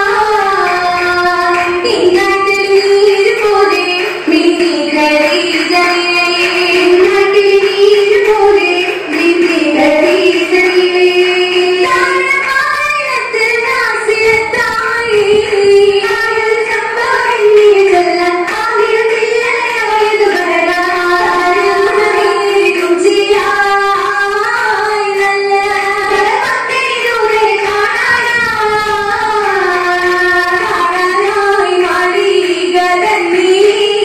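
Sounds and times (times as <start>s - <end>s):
young women singing together: 0.0s - 34.0s.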